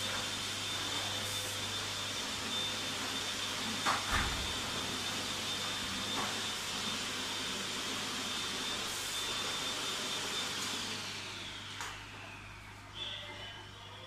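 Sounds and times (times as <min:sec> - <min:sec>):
vacuum cleaner whine: 0:00.0 - 0:14.0.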